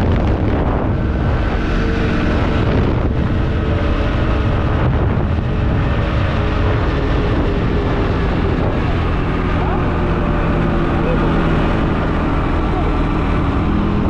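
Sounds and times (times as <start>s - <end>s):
quad bike engine running: 0.0s - 14.0s
wind buffeting microphone: 0.0s - 14.0s.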